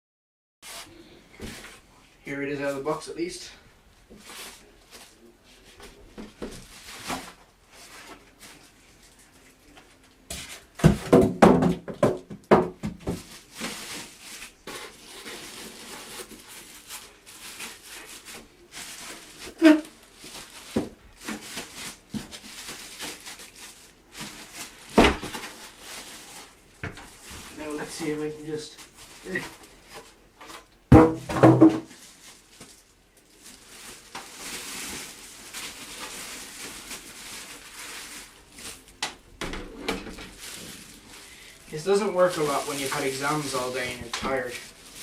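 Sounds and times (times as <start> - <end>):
rustling: 4.2 - 10.8, 13.1 - 45.0.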